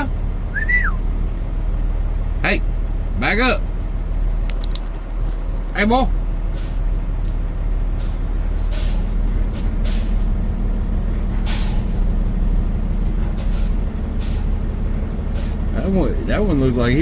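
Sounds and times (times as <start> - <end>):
vehicle engine low drone: 0.0 - 17.0.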